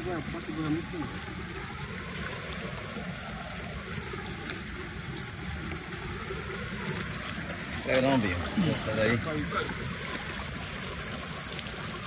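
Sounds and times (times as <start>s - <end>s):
water gushing and churning: 0.0s - 12.0s.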